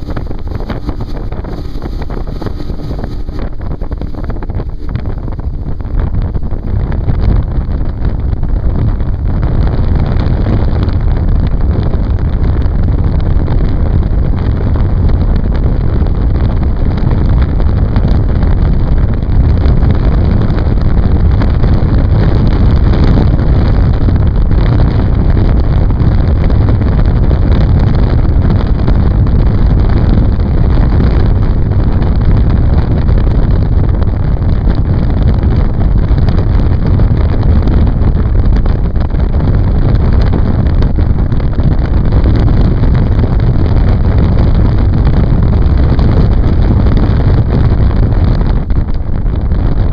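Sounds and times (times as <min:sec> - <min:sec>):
motorboat motor running: 0:00.0 - 0:49.9
wind buffeting microphone: 0:00.0 - 0:49.9.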